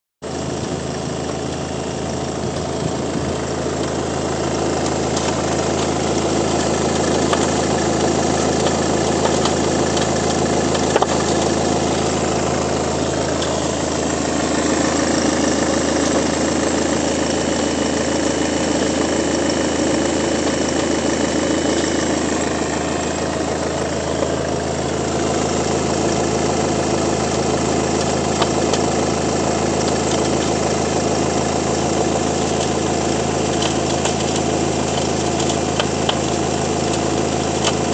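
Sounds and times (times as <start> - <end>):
diesel engine idling: 0.2 - 37.9.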